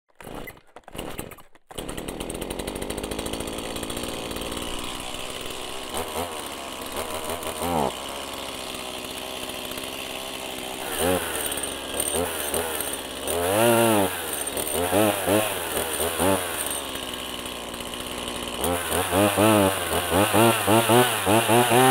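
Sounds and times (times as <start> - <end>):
chainsaw engine revving: 0.2 - 21.9.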